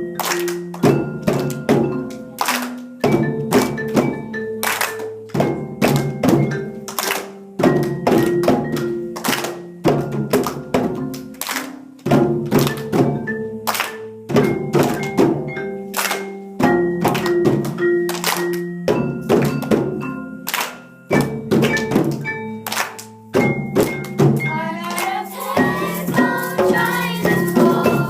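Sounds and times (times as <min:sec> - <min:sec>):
pitched percussion music: 0:00.0 - 0:28.0.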